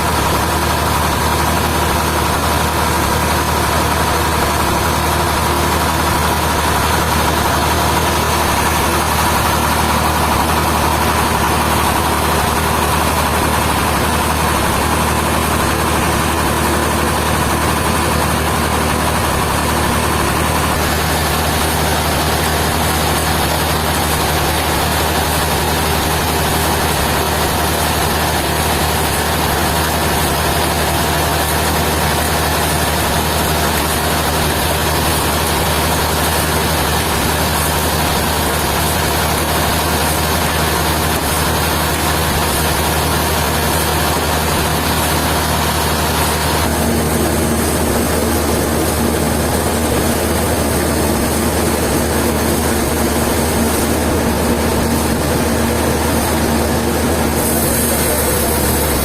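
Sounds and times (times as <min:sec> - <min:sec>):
heavy engine humming: 0:00.0 - 0:59.0
high engine whine: 0:00.0 - 0:59.0.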